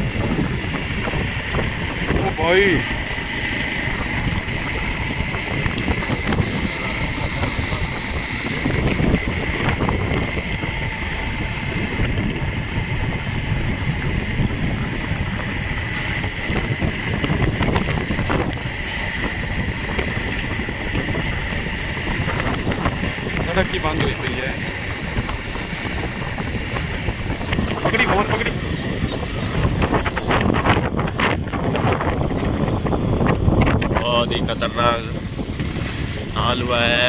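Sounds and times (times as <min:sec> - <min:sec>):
motorcycle running: 0:00.0 - 0:37.0
steady high whine: 0:00.0 - 0:37.0
wind buffeting microphone: 0:00.0 - 0:37.0.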